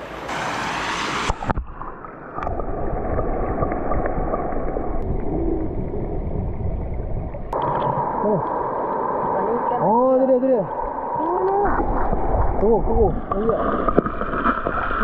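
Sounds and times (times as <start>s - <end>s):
muffled river water rushing: 0.0s - 15.0s.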